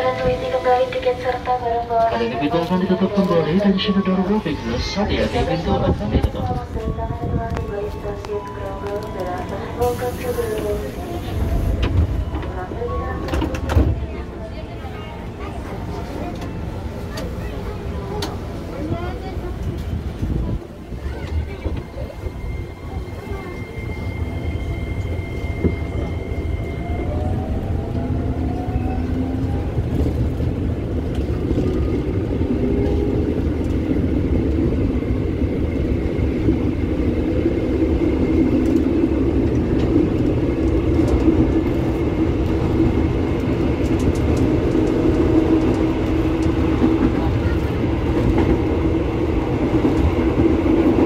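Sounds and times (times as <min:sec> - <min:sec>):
low train rumble: 0:00.0 - 0:51.0.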